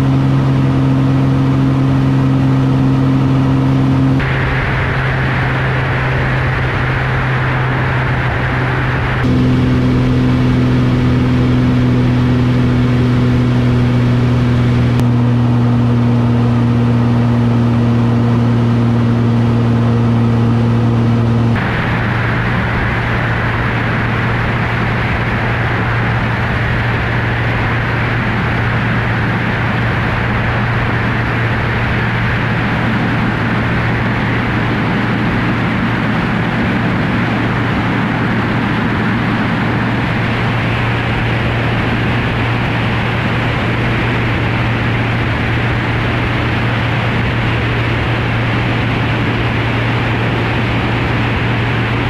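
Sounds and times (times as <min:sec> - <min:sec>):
plane engine and propeller: 0:00.0 - 0:52.0
rush of airflow: 0:01.2 - 0:17.6, 0:18.7 - 0:52.0.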